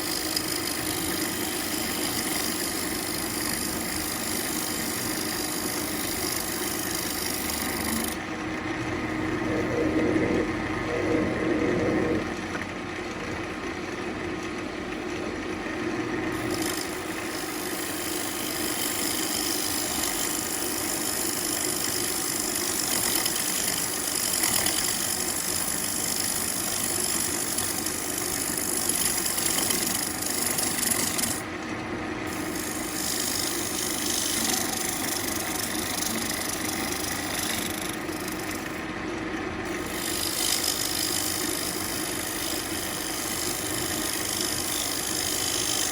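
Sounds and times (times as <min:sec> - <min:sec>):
turning tool scraping wood: 0:00.0 - 0:12.7, 0:16.3 - 0:31.5, 0:32.3 - 0:39.0, 0:39.6 - 0:45.9
wood lathe humming: 0:00.0 - 0:45.9.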